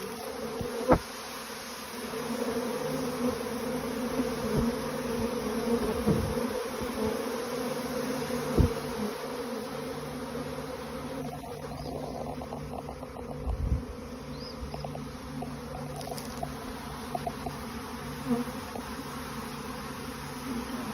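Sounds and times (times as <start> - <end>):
single bee zipping past: 0.0 - 20.9
swarm of bees buzzing: 0.0 - 20.9.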